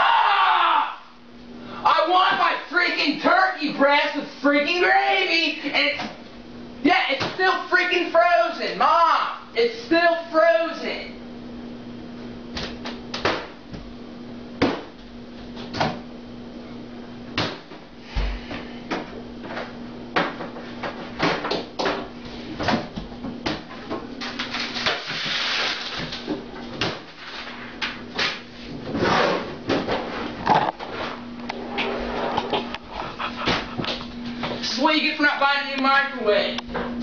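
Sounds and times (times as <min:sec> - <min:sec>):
microwave oven humming: 0:00.0 - 0:37.0.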